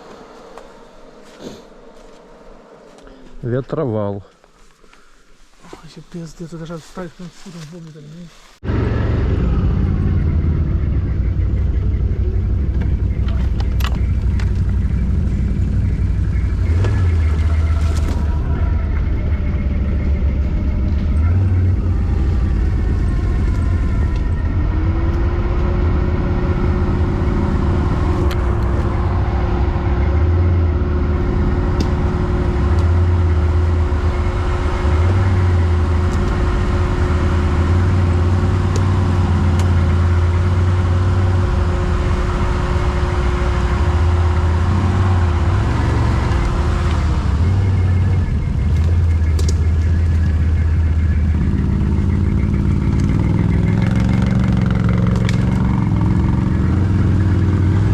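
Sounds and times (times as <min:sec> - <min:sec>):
quad bike engine rumbling: 0:08.6 - 0:57.9
steady whine: 0:08.6 - 0:57.9.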